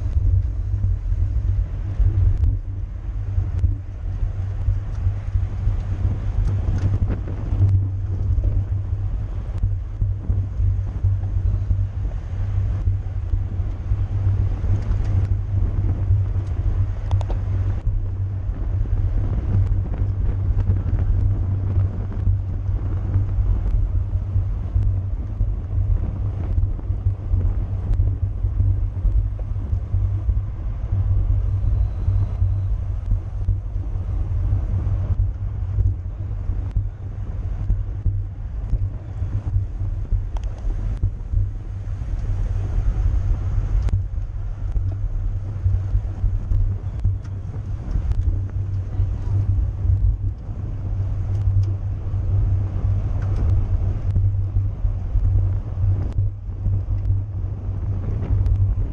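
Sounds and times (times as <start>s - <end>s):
road and tyre noise: 0.0s - 58.9s
wind buffeting microphone: 0.0s - 58.9s.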